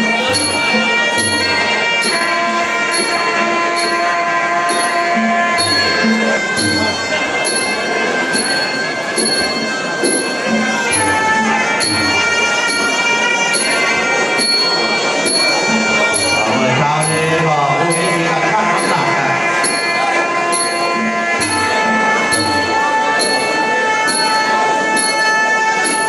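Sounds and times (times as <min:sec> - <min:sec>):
cymbal striking a beat: 0:00.0 - 0:26.0
drum beats: 0:00.0 - 0:26.0
nasal oboe tune: 0:00.0 - 0:26.0.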